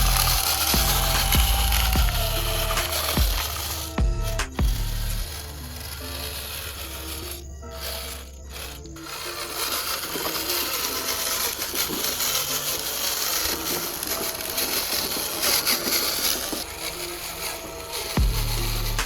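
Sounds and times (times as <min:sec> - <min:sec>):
hand tool scraping material: 0:00.0 - 0:19.0.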